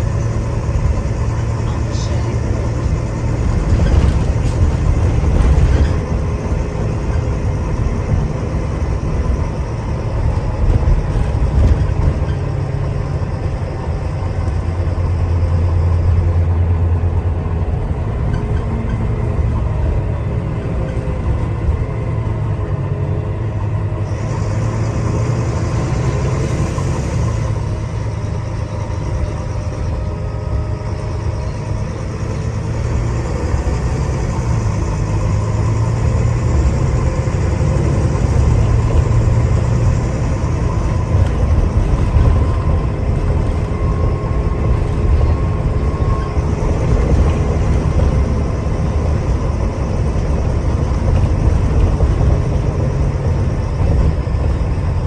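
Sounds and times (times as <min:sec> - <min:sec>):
bus engine rumble: 0:00.0 - 0:55.0
road noise: 0:00.0 - 0:55.0.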